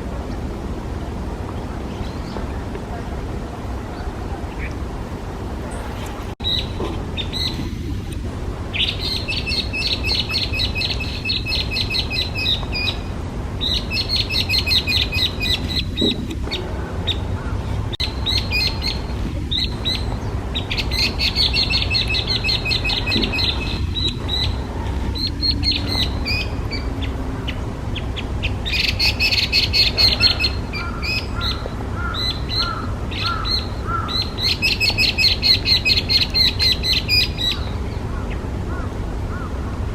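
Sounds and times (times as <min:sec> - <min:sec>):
bird singing rapid notes: 0:05.6 - 0:38.4.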